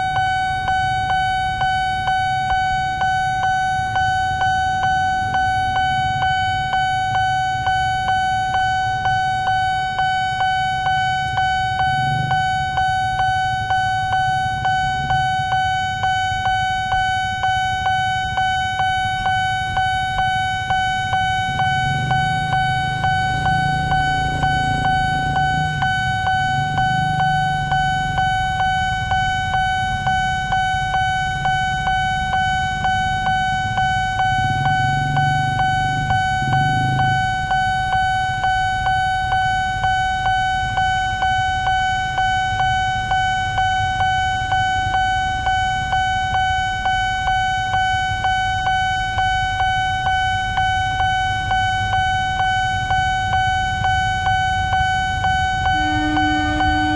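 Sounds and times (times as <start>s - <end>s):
vehicle engines running: 0.0s - 40.8s, 51.7s - 56.9s
level-crossing warning bell: 0.0s - 56.9s.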